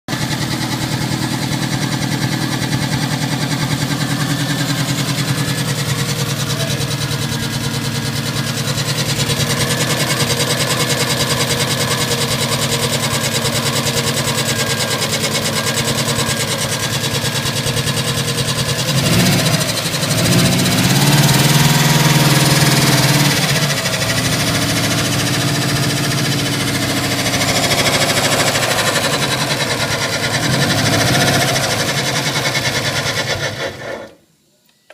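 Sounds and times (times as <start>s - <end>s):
car engine idling and revving: 0.0s - 34.2s.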